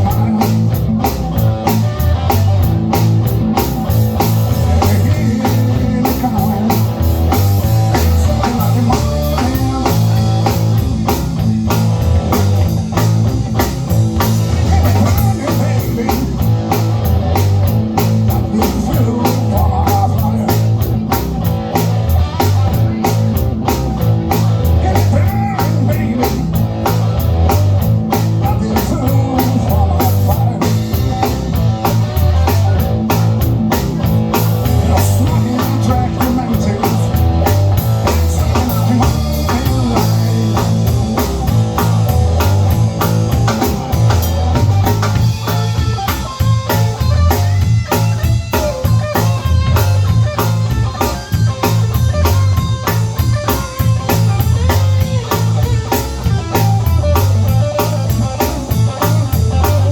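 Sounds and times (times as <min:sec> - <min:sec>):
blues band playing live: 0:00.0 - 0:59.9
electric guitar: 0:00.0 - 0:59.9.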